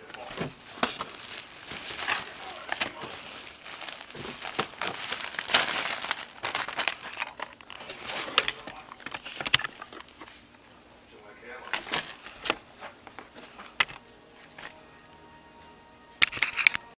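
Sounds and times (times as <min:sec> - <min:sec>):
plastic packaging crinkling: 0:00.0 - 0:10.6, 0:11.5 - 0:14.8, 0:16.2 - 0:16.8.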